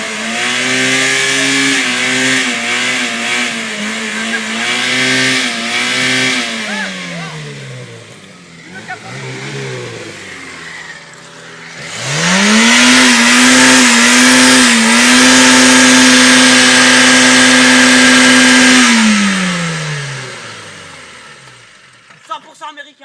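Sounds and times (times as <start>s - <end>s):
car engine revving: 0.0s - 22.1s.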